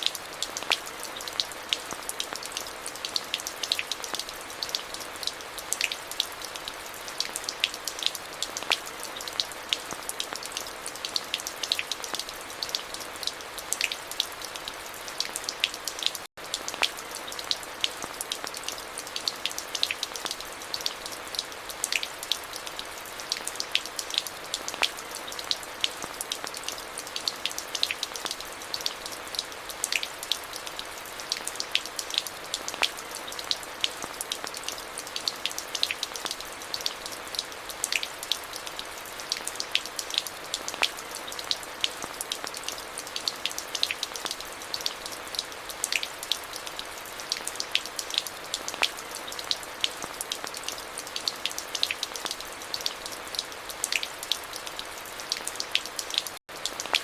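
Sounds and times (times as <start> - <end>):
raindrops striking close by: 0.0 - 57.0
steady rain falling: 0.0 - 57.0.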